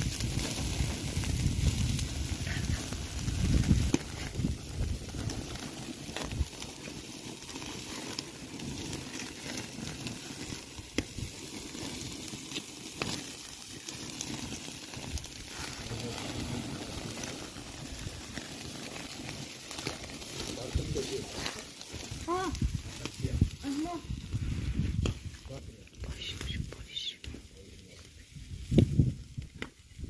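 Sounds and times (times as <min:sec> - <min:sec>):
fire crackling: 0:00.0 - 0:30.0
meat sizzling over fire: 0:00.0 - 0:30.0.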